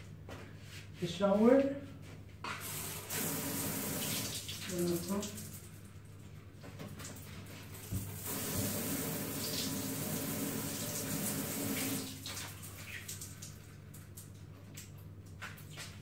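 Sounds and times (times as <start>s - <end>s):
shower water running: 2.6s - 16.0s.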